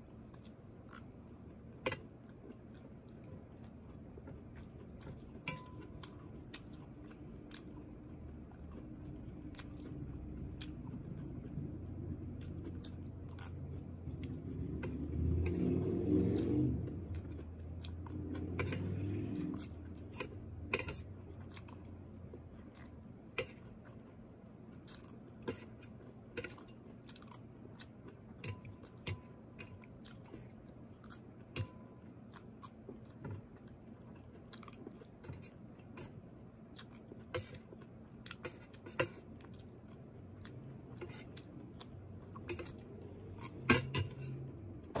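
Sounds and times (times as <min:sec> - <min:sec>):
person chewing: 0:00.2 - 0:45.0.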